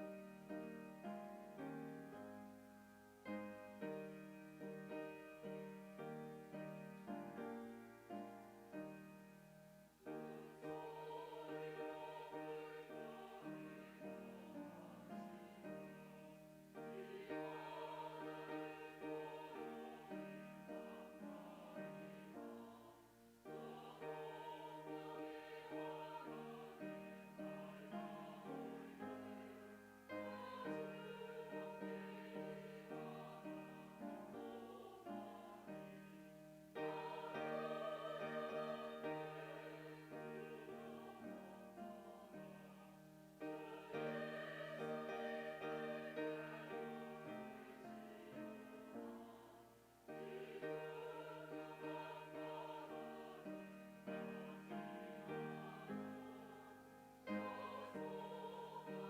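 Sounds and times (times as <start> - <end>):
church choir singing a hymn: 0.0 - 59.0.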